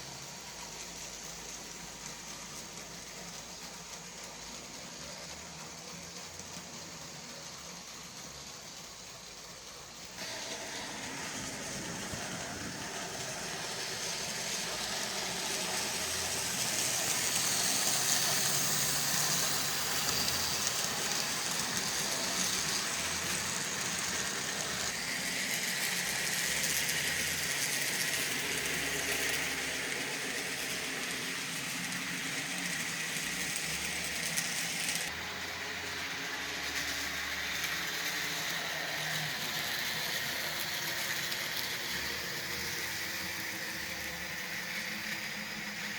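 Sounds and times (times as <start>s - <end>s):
wheels rattling on rails: 0.0s - 45.9s
whir of small electric motors: 0.0s - 45.9s.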